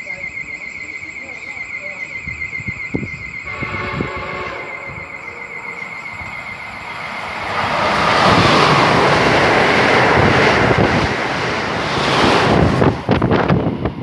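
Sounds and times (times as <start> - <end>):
train rushing past: 2.6 - 14.0.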